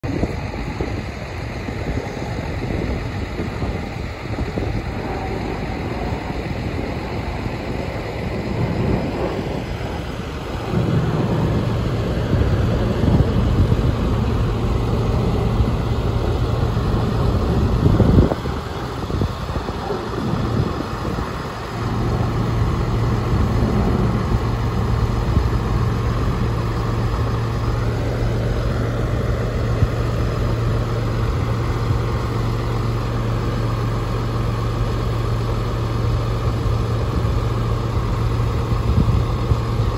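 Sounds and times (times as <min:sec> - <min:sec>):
jet aircraft rumbling overhead: 0:00.0 - 0:39.9
rush of noise: 0:00.0 - 0:39.9
tractor engine idling: 0:00.0 - 0:39.9.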